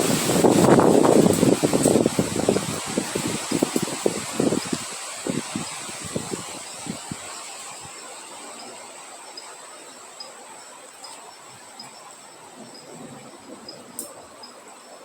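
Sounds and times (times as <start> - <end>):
insect chirps: 0.0 - 15.0
wind through foliage: 0.0 - 15.0
insect trilling: 0.1 - 15.0.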